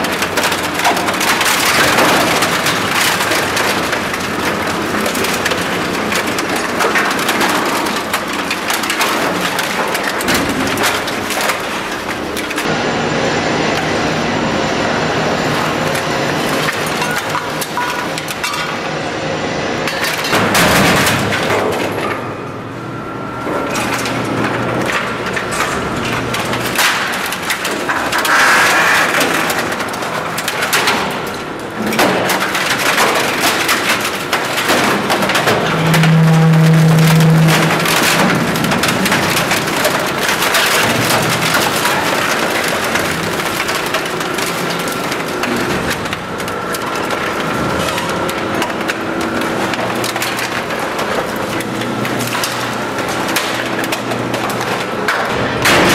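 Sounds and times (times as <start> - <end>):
auger crushing metal and plastic: 0.0 - 12.7, 15.2 - 18.8, 19.8 - 55.9.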